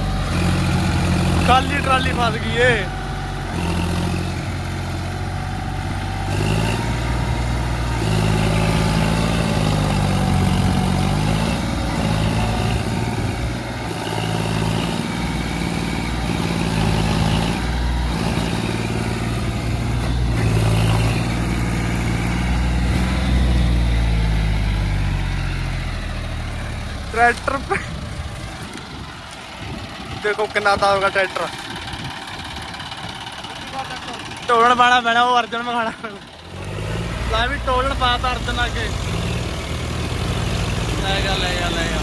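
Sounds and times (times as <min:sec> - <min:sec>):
tractor engine labouring: 0:00.0 - 0:42.0.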